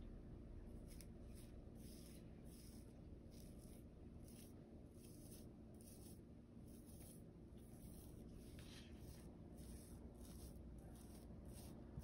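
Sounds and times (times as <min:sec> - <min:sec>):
butter knife scraping cream: 0:00.8 - 0:12.0.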